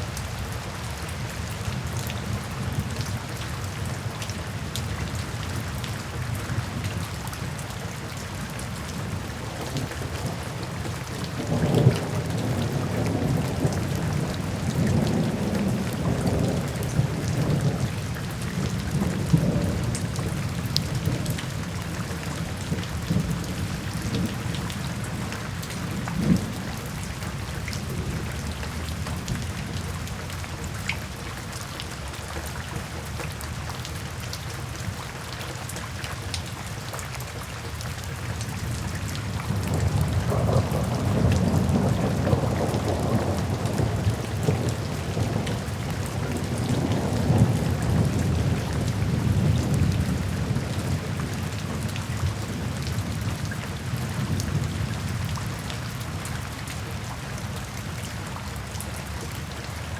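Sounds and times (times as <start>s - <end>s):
steady rain falling: 0.0s - 59.9s
low rumble of thunder: 0.7s - 31.1s, 38.4s - 59.3s.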